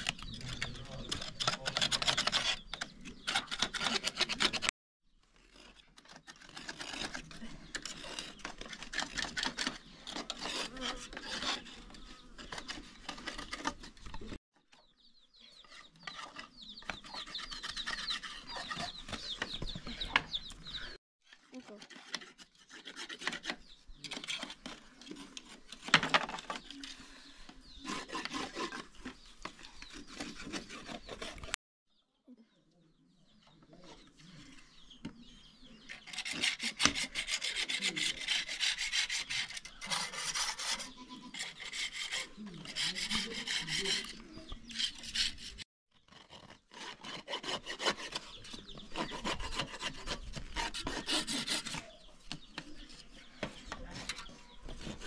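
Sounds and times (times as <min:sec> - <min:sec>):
knife scraping wooden frames: 0:00.0 - 0:04.7, 0:05.4 - 0:14.4, 0:15.6 - 0:19.7, 0:21.6 - 0:31.6, 0:35.8 - 0:55.0.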